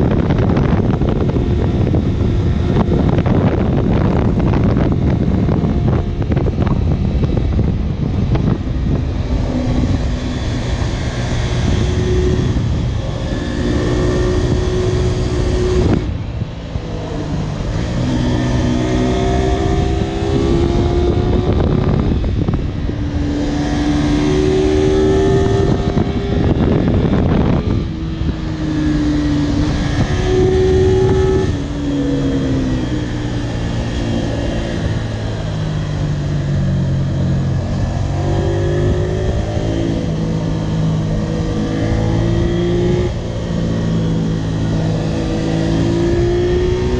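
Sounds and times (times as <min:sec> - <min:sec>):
motorcycle engine revving: 0:00.0 - 0:46.9
wind rush over microphone: 0:00.0 - 0:46.9.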